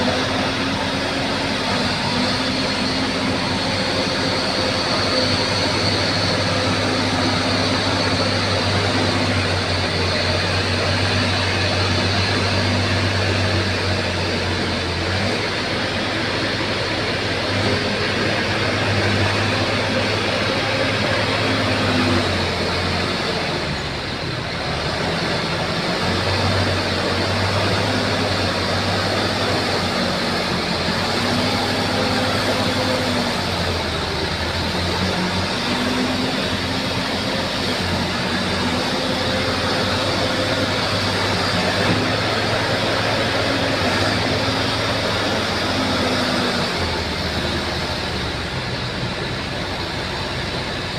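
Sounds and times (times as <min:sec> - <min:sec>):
bulldozer diesel engine working: 0:00.0 - 0:50.9.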